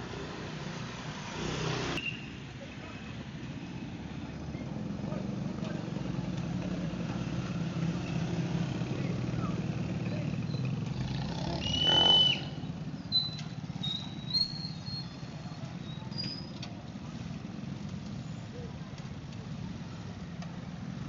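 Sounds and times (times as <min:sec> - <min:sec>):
vehicle engine low rumble: 0:02.5 - 0:21.0.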